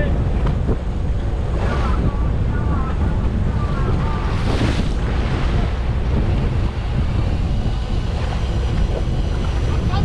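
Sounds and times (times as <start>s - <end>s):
boat engine low rumble: 0.0s - 10.0s
wind buffeting microphone: 0.0s - 10.0s
sea water washing: 0.1s - 10.0s.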